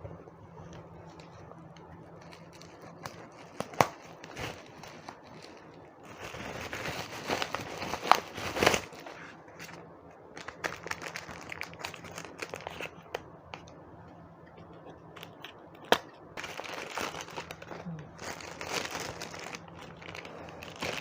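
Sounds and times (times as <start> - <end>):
packaging rustling and crackling: 1.1 - 13.7, 15.1 - 21.0.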